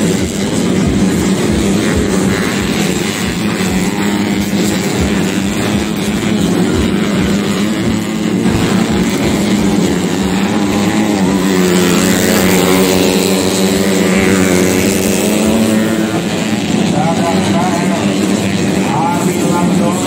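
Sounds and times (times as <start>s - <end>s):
racing motorcycles engine drone: 0.0s - 20.0s.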